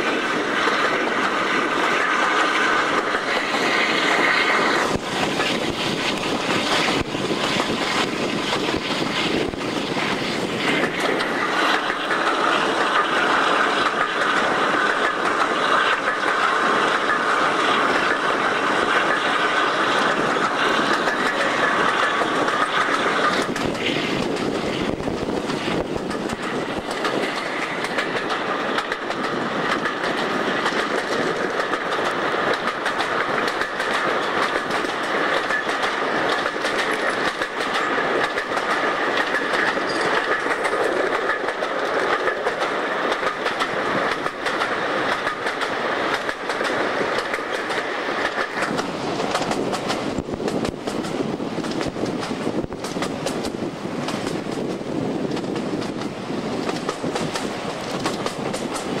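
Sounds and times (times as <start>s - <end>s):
train wheels rolling and clicking: 0.0s - 59.0s.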